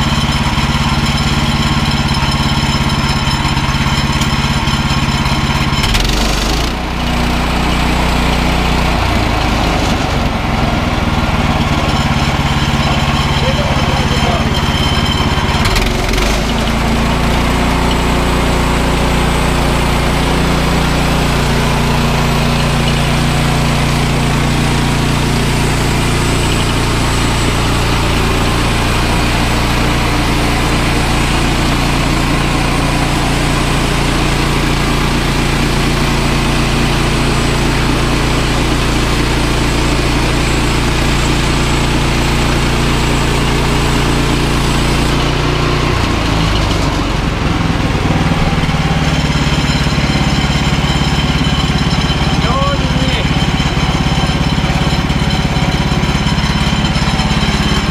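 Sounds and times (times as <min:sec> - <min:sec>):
petrol engine running: 0:00.0 - 0:57.9.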